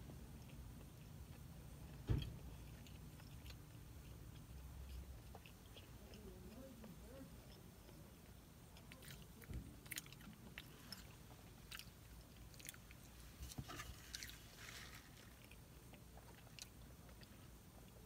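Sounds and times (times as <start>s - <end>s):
chewing clicks and smacks: 0.0s - 18.0s.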